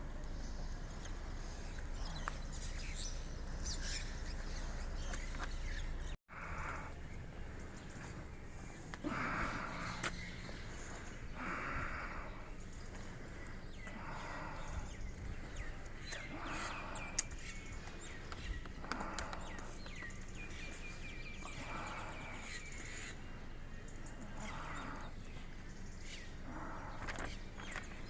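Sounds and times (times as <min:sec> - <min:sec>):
harsh bird calls: 0:00.3 - 0:28.0.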